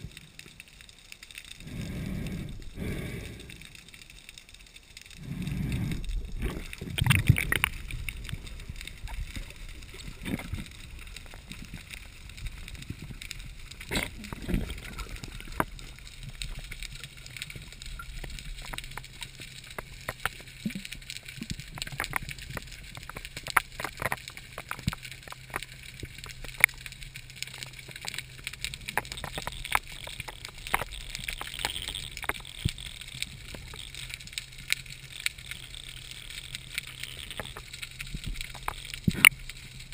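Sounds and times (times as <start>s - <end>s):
sharp clicks and crackles: 0.0s - 39.9s.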